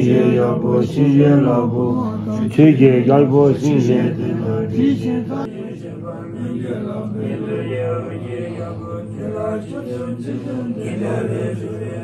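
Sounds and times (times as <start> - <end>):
monks chanting: 0.0 - 12.0.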